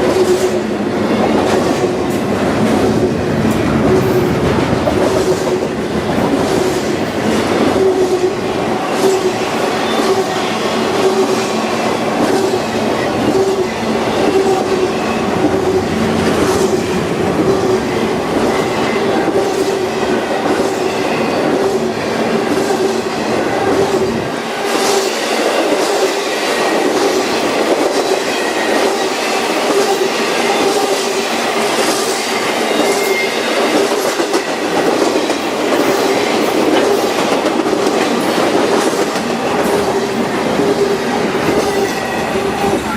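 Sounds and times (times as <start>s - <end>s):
freight train cars rolling: 0.0s - 42.9s.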